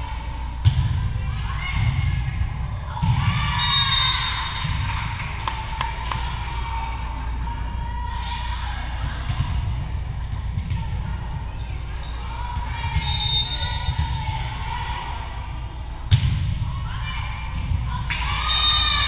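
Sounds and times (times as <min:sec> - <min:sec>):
low rumble of the hall: 0:00.0 - 0:19.0
voices calling out and cheering: 0:00.0 - 0:19.0.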